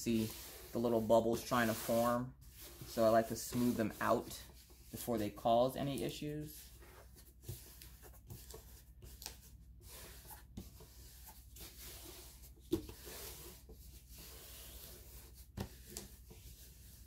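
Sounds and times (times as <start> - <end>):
hands rubbing canvas: 0.0 - 17.0.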